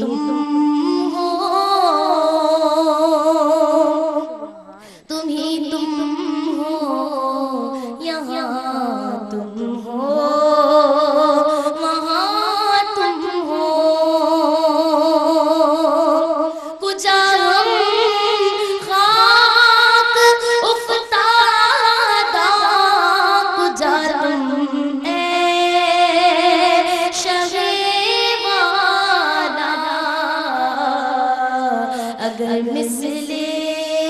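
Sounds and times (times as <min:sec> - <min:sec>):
woman singing into a microphone: 0:00.0 - 0:34.0.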